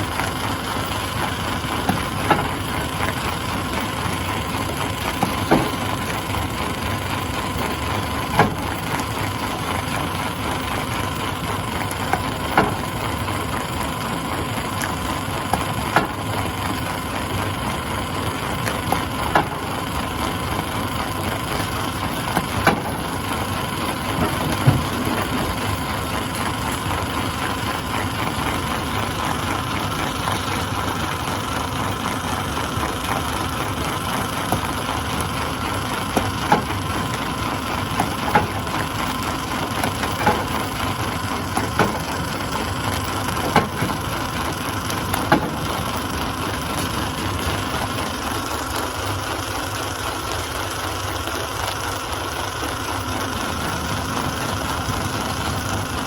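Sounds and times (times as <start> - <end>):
stone crusher running: 0.0 - 56.0.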